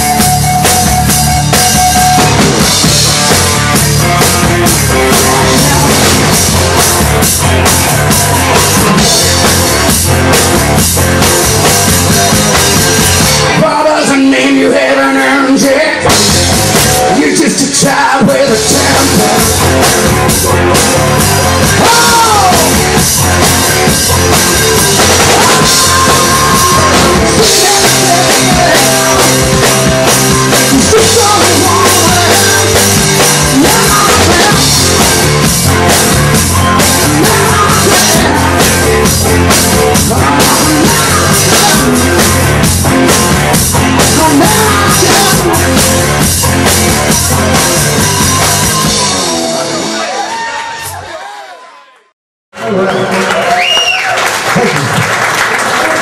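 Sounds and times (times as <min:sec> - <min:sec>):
drums and cymbals played hard: 0:00.0 - 0:13.6, 0:16.0 - 0:50.3
live rock music: 0:00.0 - 0:51.1.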